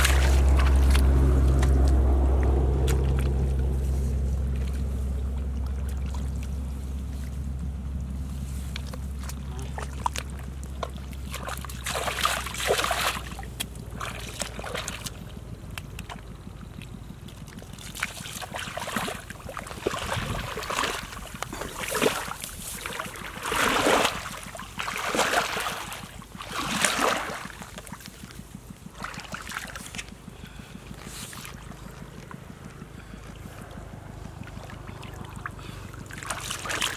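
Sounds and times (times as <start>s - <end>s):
feet sloshing through muddy water: 0.0s - 36.9s.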